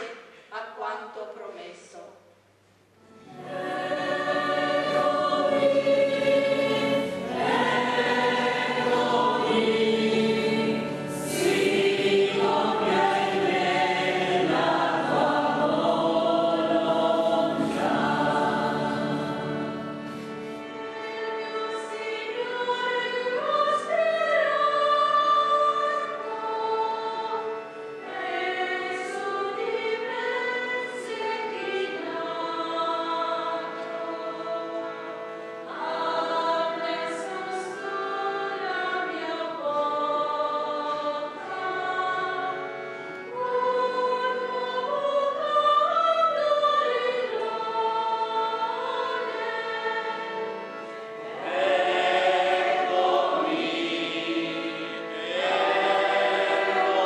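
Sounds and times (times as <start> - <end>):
choir singing a hymn: 3.0 - 57.0
low steady accompaniment: 3.0 - 57.0.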